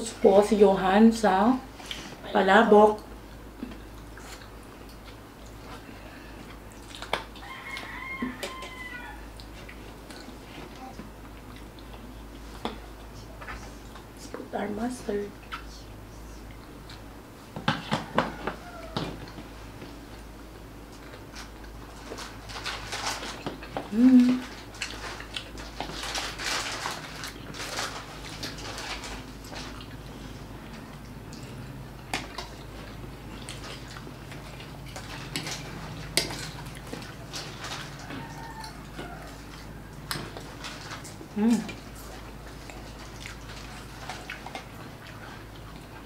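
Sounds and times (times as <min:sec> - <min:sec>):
chewing: 0:03.0 - 0:14.4, 0:16.4 - 0:17.1, 0:18.0 - 0:46.0.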